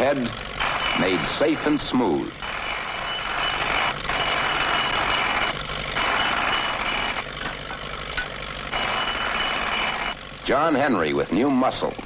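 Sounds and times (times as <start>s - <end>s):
spike-driving machine noise: 0.0s - 12.0s.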